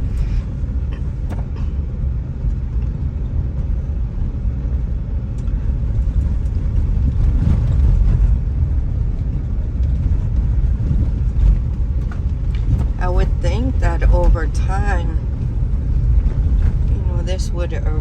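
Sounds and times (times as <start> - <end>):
car road noise inside cabin: 0.0 - 18.0.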